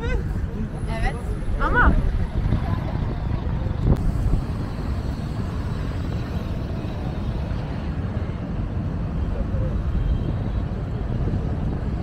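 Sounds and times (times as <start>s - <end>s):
low rumble of city traffic: 0.0s - 12.0s.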